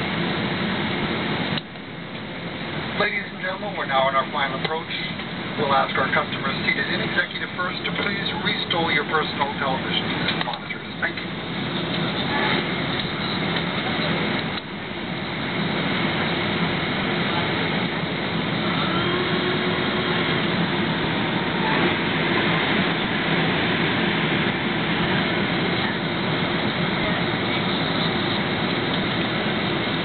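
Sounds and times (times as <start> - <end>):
aircraft cabin engine and airflow noise: 0.0 - 30.0
faint hum: 0.0 - 30.0.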